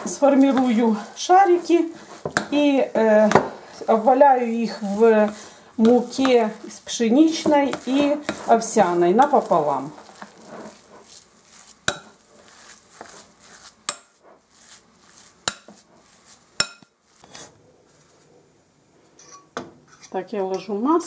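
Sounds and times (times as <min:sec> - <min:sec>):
spoon scraping dough in bowl: 0:00.0 - 0:18.3.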